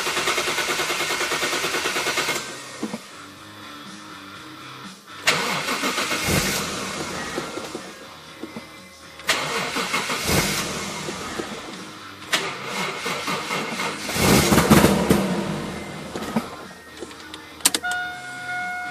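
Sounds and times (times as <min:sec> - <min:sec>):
engine cranking without starting: 0:00.0 - 0:03.1, 0:05.2 - 0:18.1.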